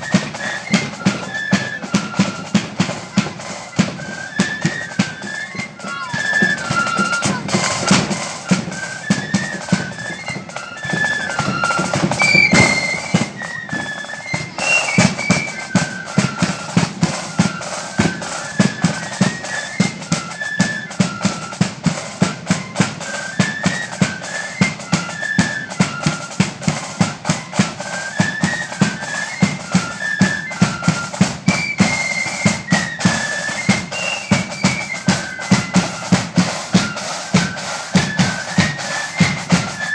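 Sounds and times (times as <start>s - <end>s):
bass drum and snare march beat: 0.0s - 39.9s
flutes playing in unison: 0.0s - 39.9s.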